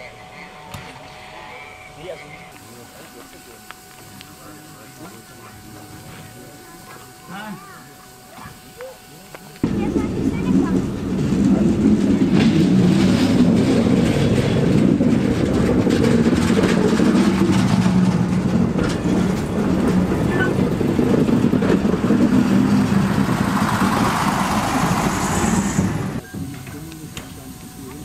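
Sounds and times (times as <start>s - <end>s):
locomotive engine droning: 0.0s - 28.0s.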